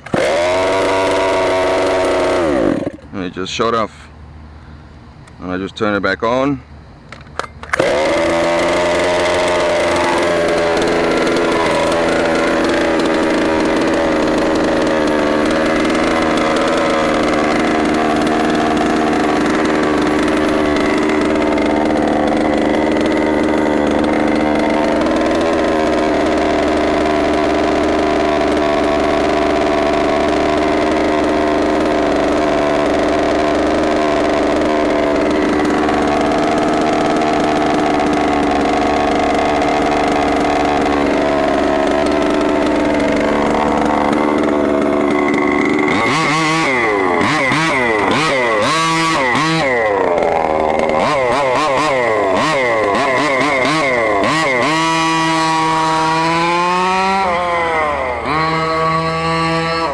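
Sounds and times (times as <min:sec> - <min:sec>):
small two-stroke engine revving: 0:00.0 - 0:03.6, 0:07.4 - 0:59.9.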